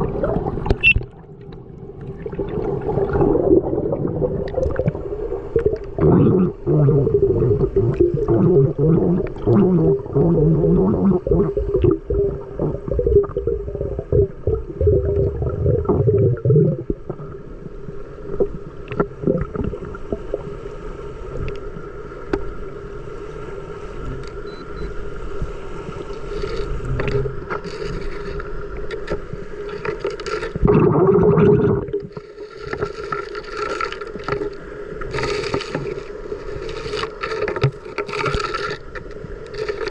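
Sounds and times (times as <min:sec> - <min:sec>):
gurgling water and bubbles: 0:00.0 - 0:39.9.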